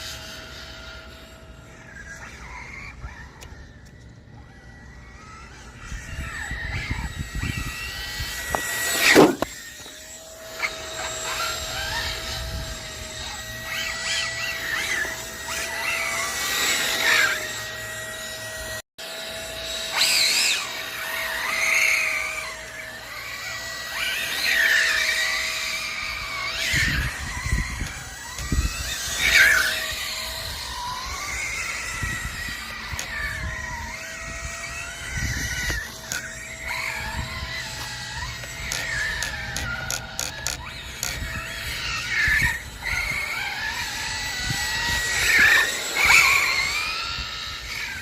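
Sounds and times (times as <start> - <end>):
electric motor whining: 0.0 - 48.0
steady high-pitched hum: 0.0 - 48.0.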